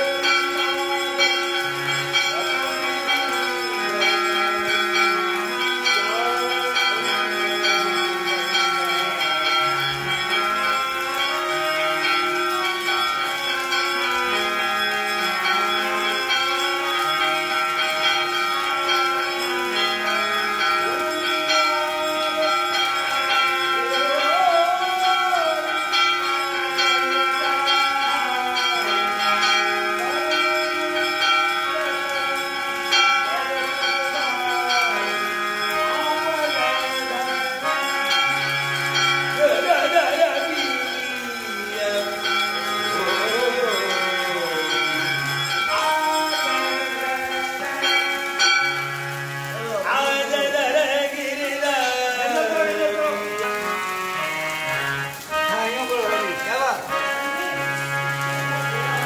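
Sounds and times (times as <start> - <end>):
temple bells ringing: 0.0 - 59.0.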